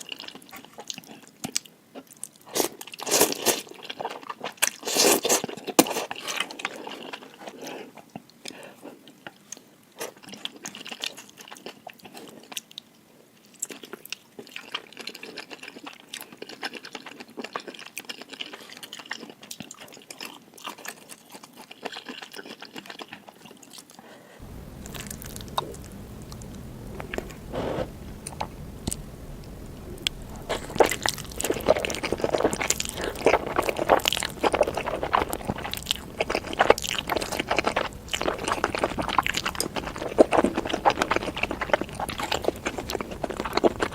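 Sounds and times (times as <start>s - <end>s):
chewing noodles: 0.0s - 43.9s.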